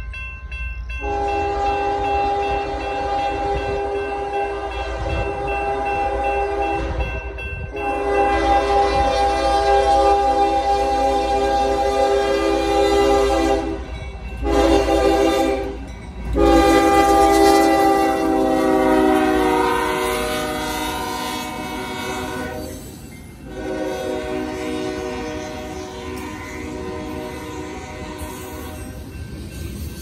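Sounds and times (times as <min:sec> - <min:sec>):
locomotive air horn blasts: 0:01.0 - 0:15.8, 0:16.4 - 0:22.8, 0:23.4 - 0:29.0.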